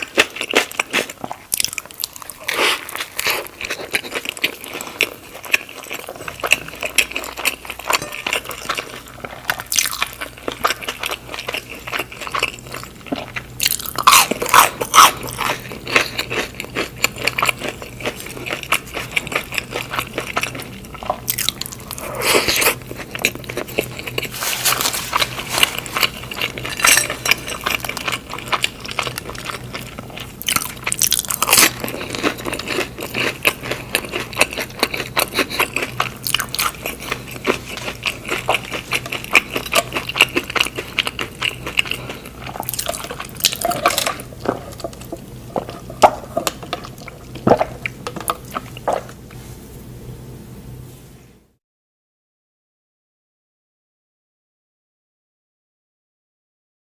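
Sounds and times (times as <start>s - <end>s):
crunchy chewing: 0.0s - 49.4s.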